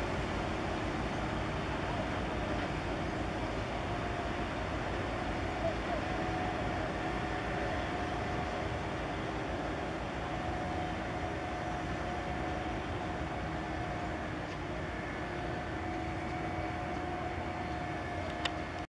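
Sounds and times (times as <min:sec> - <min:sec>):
two-tone mechanical hum: 0:00.0 - 0:18.9.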